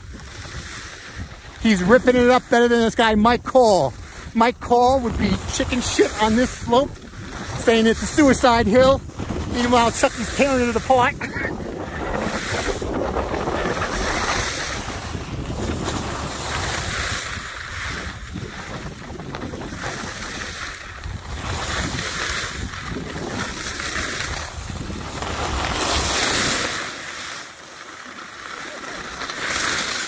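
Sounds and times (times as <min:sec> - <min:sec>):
wind rushing over microphone: 0:00.0 - 0:26.6
skis scraping on packed snow: 0:00.0 - 0:30.0.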